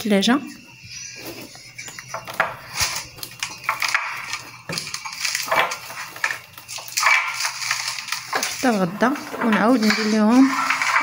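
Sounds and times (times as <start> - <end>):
cling film crinkling: 1.4 - 11.0.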